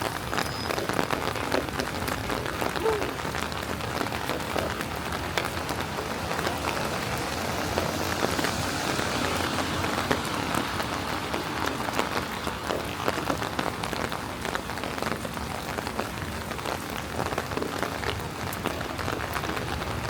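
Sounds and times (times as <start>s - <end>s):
rain falling: 0.0s - 20.0s
raindrops ticking sharply: 0.0s - 20.0s.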